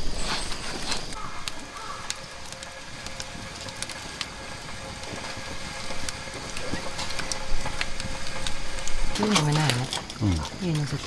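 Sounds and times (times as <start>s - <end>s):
campfire crackling: 0.0s - 11.0s
sharp pops and snaps of fire: 0.0s - 11.0s.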